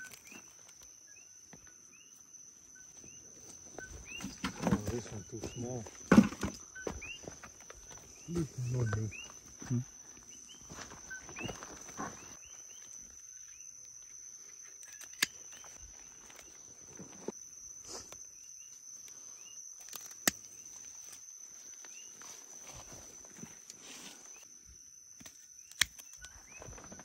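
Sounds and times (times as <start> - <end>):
high-pitched insect trill: 0.0 - 27.0.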